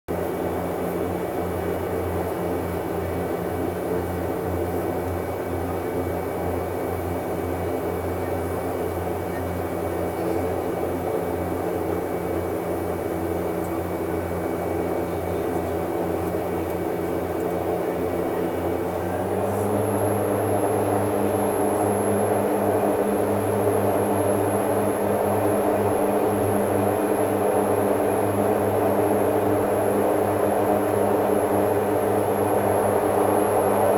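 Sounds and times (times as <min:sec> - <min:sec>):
turboprop engines droning: 0:00.1 - 0:33.9
high engine whine: 0:00.2 - 0:33.9.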